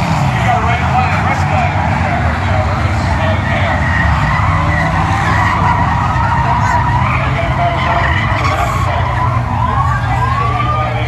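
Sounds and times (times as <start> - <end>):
race car engines passing: 0.0 - 11.0
tires squealing: 0.0 - 11.0.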